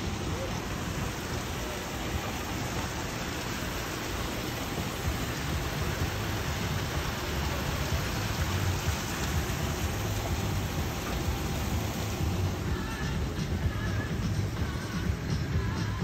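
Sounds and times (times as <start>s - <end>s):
waterfall splashing into a pond: 0.0s - 16.0s.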